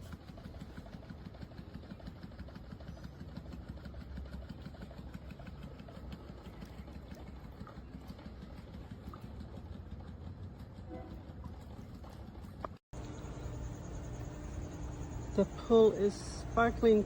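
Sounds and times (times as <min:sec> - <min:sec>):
motor humming with flutter: 0:00.0 - 0:17.0.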